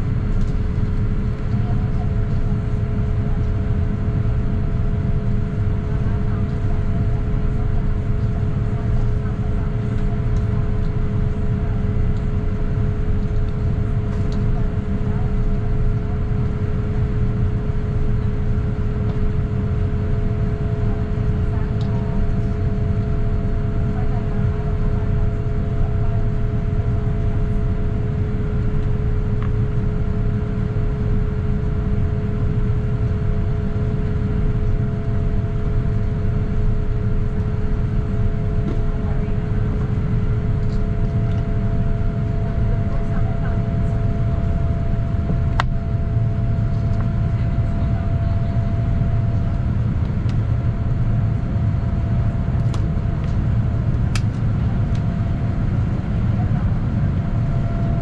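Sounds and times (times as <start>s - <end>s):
aircraft engine rumble: 0.0s - 58.0s.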